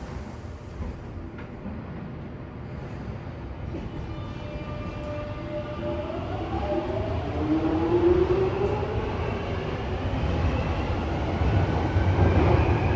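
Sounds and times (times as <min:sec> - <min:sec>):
low train running rumble: 0:00.0 - 0:12.9.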